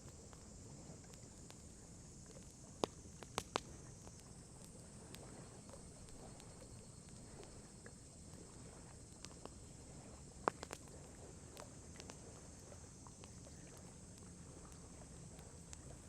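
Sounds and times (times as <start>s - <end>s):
wood fire crackling and popping: 0.0s - 7.4s, 10.3s - 15.9s
faint high hiss: 0.0s - 16.0s.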